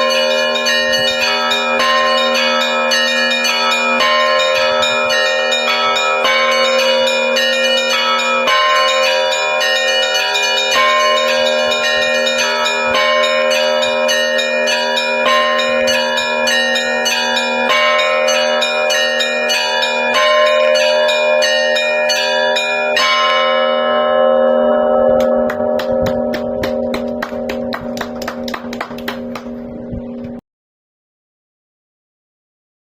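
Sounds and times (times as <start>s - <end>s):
hum of larger bells: 0.0s - 30.4s.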